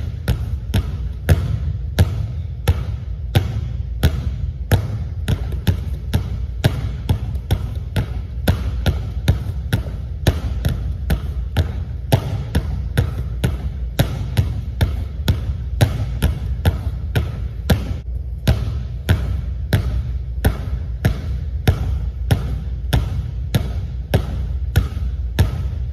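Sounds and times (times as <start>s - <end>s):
basketballs bouncing on wooden floor: 0.0s - 25.9s
steady low hum: 0.0s - 25.9s.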